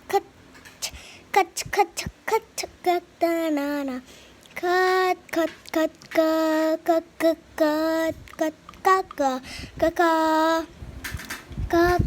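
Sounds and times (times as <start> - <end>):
child singing: 0.0 - 10.7, 11.6 - 12.0.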